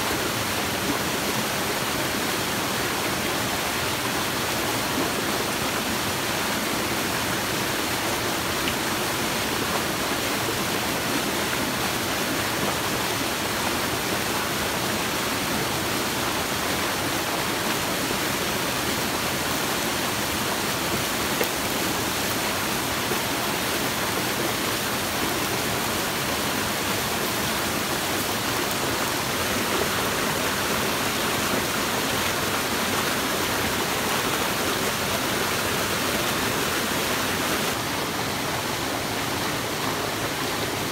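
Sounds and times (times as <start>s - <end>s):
stream cascading over rocks: 0.0s - 40.9s.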